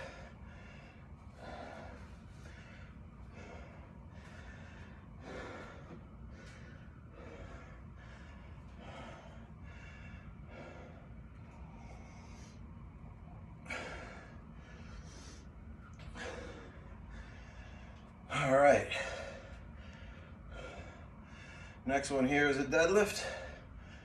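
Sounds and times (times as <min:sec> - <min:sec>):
man breathing hard: 0:00.0 - 0:24.0.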